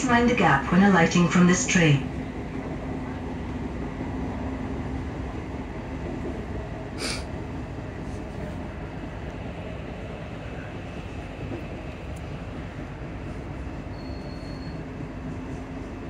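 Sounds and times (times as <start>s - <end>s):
train fans and wheels drone: 0.0s - 16.0s.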